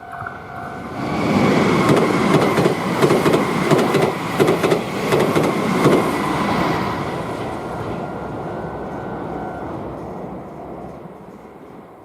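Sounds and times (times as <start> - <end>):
electric train rumbling on tracks: 0.0 - 12.0.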